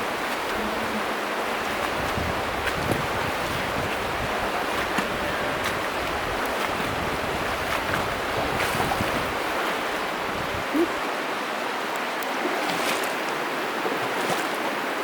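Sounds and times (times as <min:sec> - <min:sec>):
feet splashing through water: 0:00.0 - 0:11.1, 0:12.2 - 0:15.0
river current rushing: 0:00.0 - 0:15.0.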